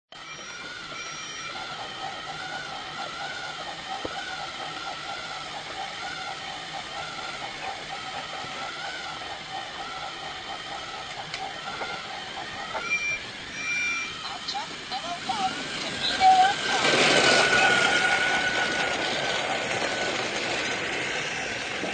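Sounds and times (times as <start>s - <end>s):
small electric motor whirring: 0.2s - 21.9s.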